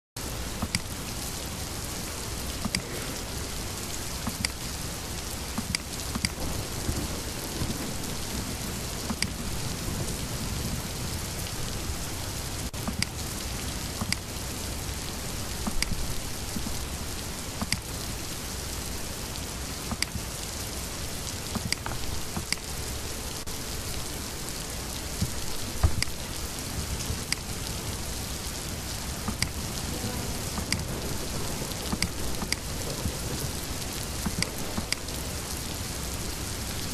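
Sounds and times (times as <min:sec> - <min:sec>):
microphone hiss: 0:00.2 - 0:36.9.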